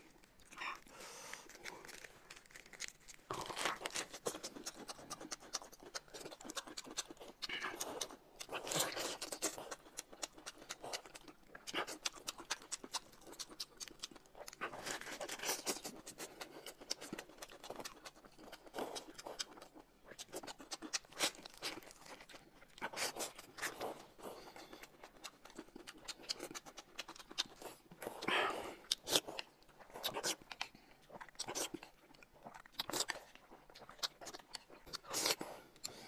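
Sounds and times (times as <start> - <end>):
chewing and crunching lettuce: 0.0 - 36.0.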